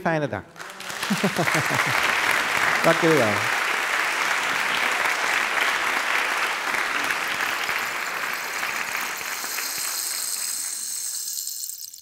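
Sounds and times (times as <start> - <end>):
audience applauding: 0.5 - 12.0.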